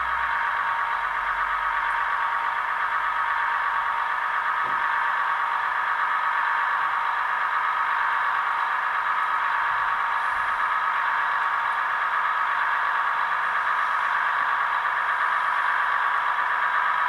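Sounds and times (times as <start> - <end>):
digital diesel engine sound: 0.0 - 17.0.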